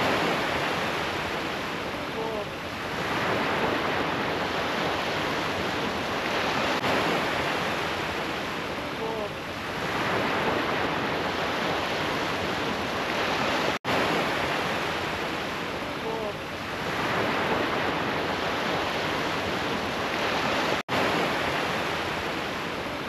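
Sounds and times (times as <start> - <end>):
waves breaking on beach: 0.0 - 23.0.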